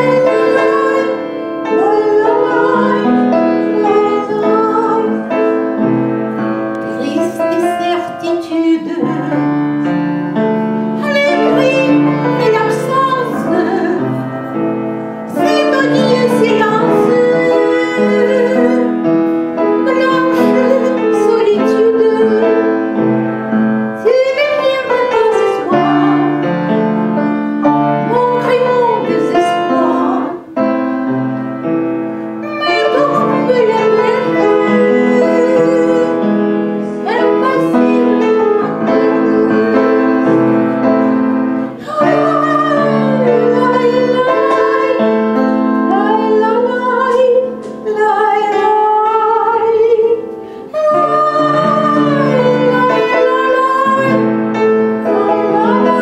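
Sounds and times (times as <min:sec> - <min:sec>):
woman singing with vibrato: 0:00.0 - 0:31.2, 0:32.3 - 0:56.0.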